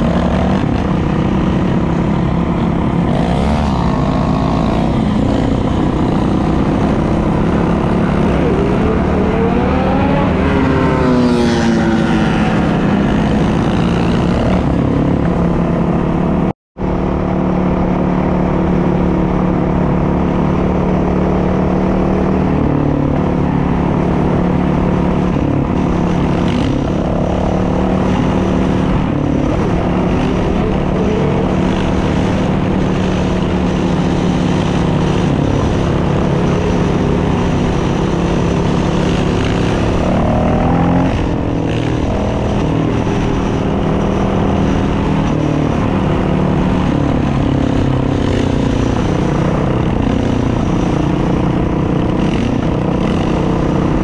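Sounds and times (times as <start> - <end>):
dirt bike engine revving: 0.0 - 16.0, 19.8 - 54.0.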